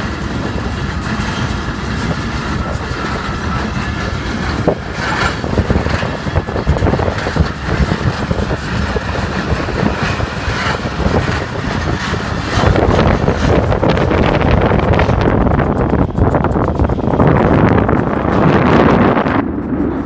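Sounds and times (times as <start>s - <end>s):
train clanks and knocks: 0.0s - 20.0s
train wheels rumbling: 0.0s - 20.0s.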